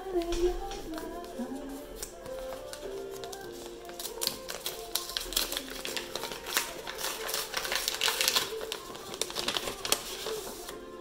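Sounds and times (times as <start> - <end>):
faint background music: 0.0 - 11.0
packaging clicks and crackles: 2.0 - 10.8.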